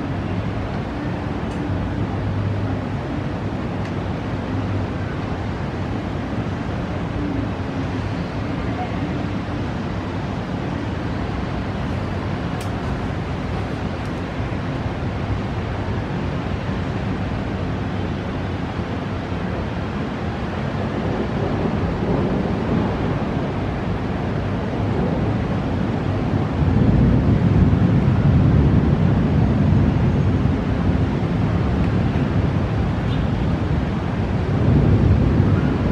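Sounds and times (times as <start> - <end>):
storm wind buffeting microphone: 0.0 - 35.9.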